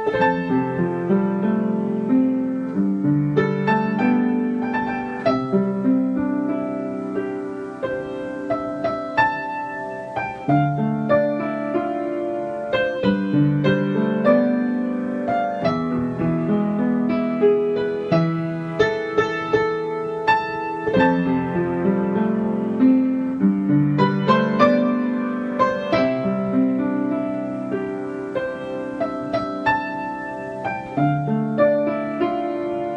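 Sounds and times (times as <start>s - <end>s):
gentle solo piano piece: 0.0s - 32.9s.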